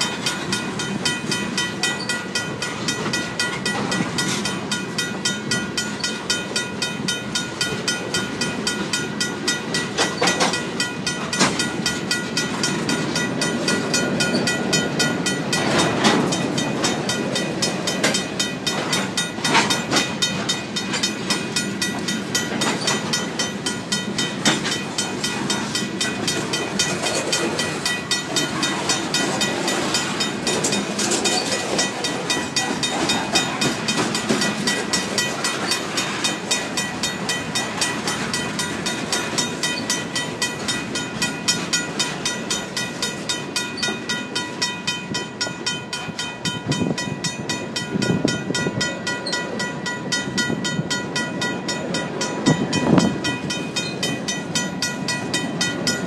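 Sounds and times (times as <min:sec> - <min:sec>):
crossing bell ringing rapidly: 0:00.0 - 0:56.0
freight train wheels clattering: 0:00.0 - 0:56.0.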